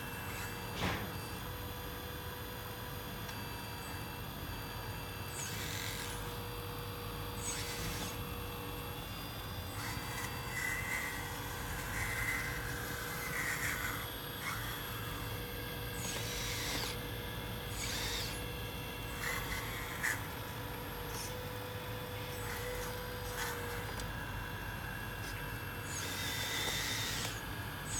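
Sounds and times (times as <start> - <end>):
model excavator motor whining: 0.0 - 27.9.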